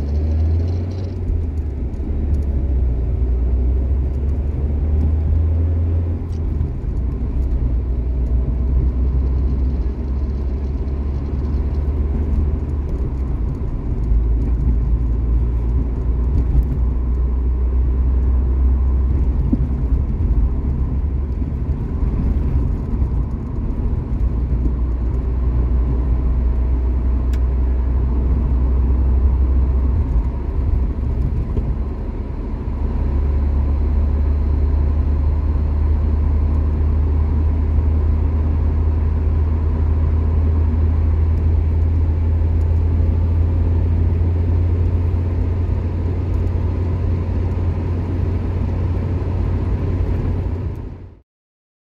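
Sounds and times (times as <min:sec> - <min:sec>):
car engine and road drone: 0:00.0 - 0:51.2.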